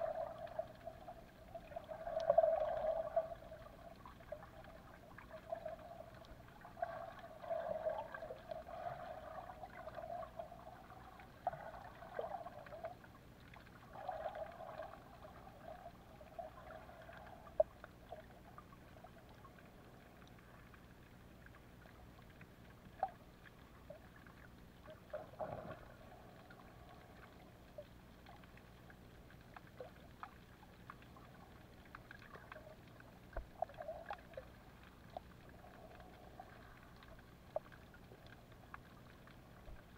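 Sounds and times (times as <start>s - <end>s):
water swishing and gurgling: 0.0s - 39.9s.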